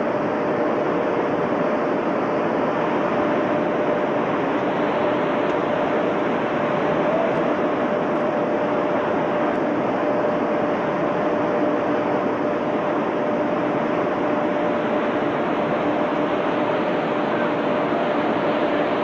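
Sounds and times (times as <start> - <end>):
constant machine hum: 0.0 - 19.0.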